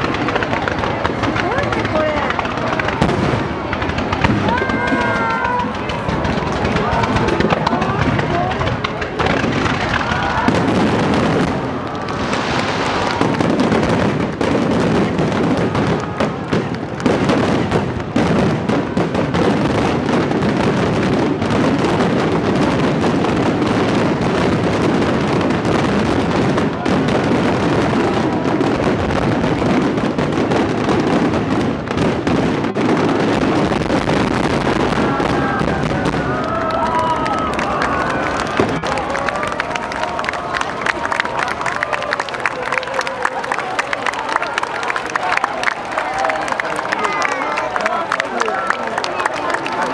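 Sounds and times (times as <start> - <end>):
fireworks banging and crackling: 0.0 - 49.9.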